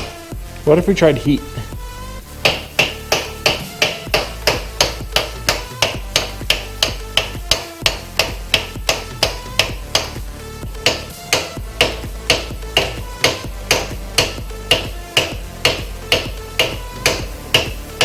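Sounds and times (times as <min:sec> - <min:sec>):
hammer blows on metal: 0:02.4 - 0:10.2, 0:10.8 - 0:18.0.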